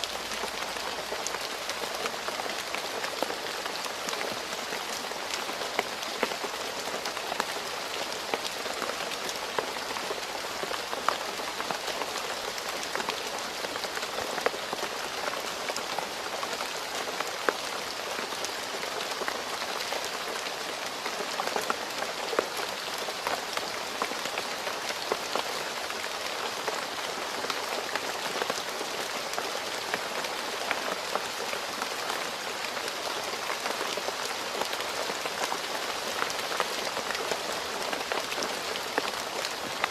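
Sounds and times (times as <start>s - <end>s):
rain falling on a road: 0.0s - 39.9s.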